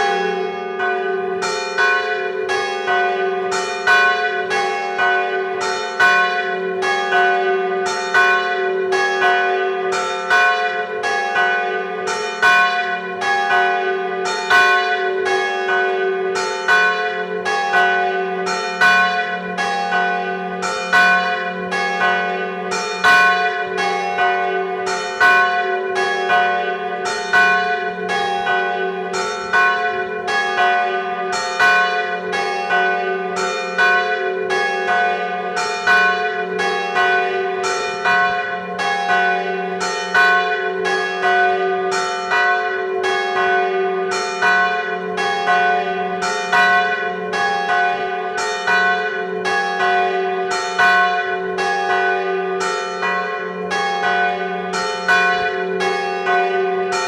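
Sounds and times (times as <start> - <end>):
church bell tolling: 0.0 - 57.0.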